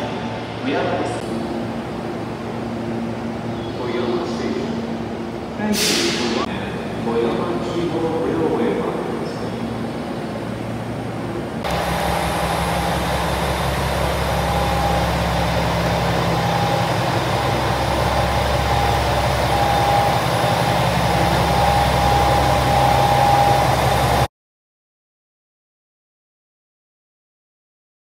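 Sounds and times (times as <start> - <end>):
diesel railcar engine growl: 0.0 - 24.3.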